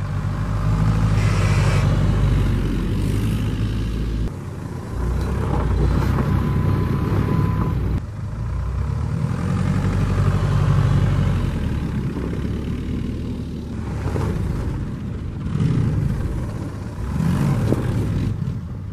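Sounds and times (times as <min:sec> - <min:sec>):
diesel engine running hard: 0:00.0 - 0:18.9.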